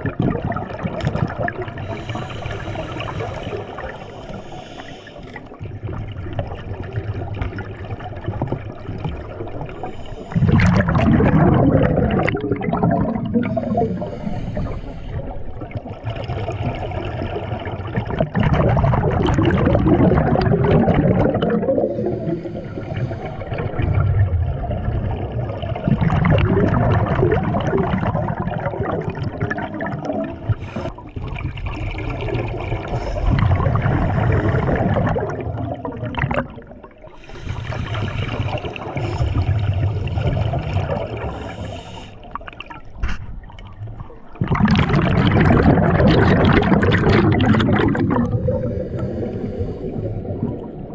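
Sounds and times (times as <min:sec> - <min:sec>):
diver's bubbles gurgling: 0:00.0 - 0:50.9
underwater rumble: 0:00.0 - 0:50.9.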